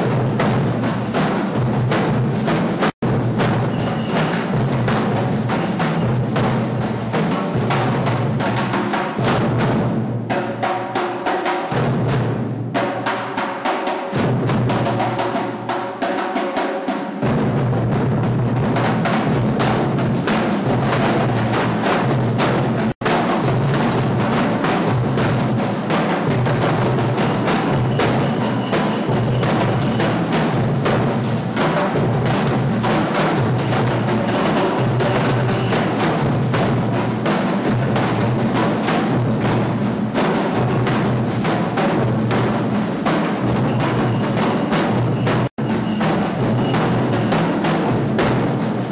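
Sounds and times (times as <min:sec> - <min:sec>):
percussion ensemble drumming: 0:00.0 - 0:48.9.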